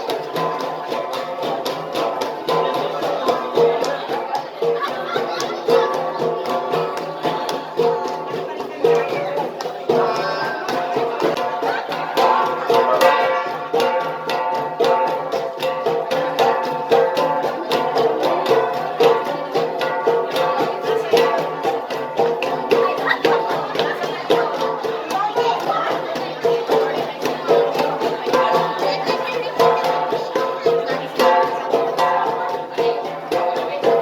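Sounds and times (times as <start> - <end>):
bronze gongs struck rhythmically: 0.0 - 34.0.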